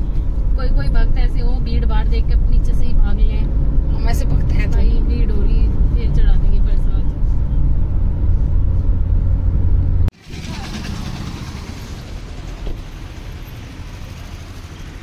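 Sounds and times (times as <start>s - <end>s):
car rumble inside cabin: 0.0s - 15.0s
outdoor street noise: 0.0s - 15.0s.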